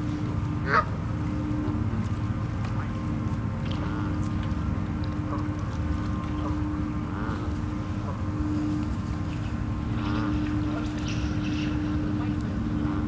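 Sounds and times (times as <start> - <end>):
geese honking: 0.0 - 1.9, 3.7 - 13.0
low rumble with hum: 0.0 - 13.0.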